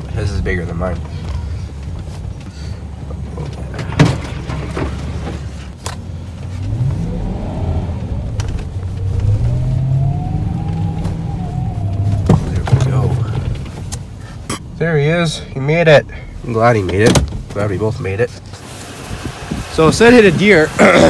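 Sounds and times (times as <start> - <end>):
truck engine rumbling and revving: 0.0 - 21.0.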